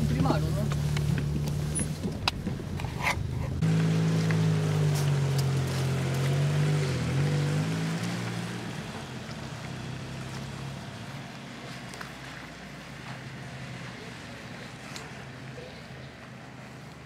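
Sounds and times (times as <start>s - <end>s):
car engine humming: 0.0s - 17.0s
road and wind noise: 0.0s - 17.0s.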